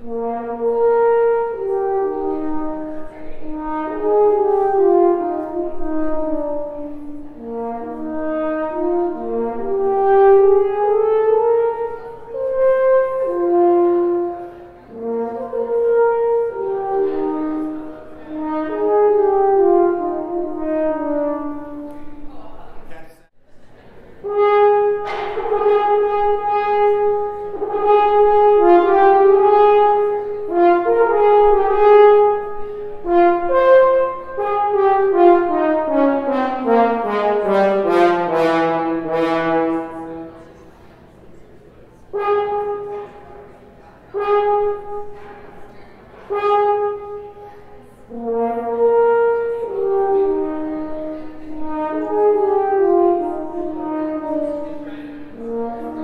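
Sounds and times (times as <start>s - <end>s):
solo french horn: 0.0s - 22.9s, 24.2s - 56.0s.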